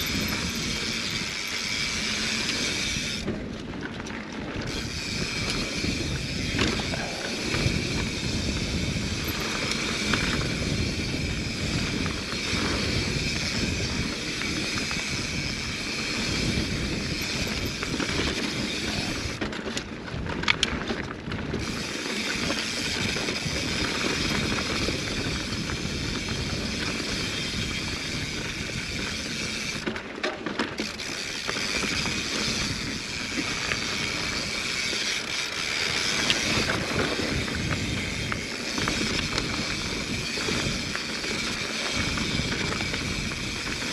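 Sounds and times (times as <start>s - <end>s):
bike freehub ratchet buzzing: 0.0s - 3.3s, 4.5s - 19.5s, 21.5s - 30.0s, 30.8s - 43.9s
bike tyres rolling over dirt and rock: 0.0s - 43.9s.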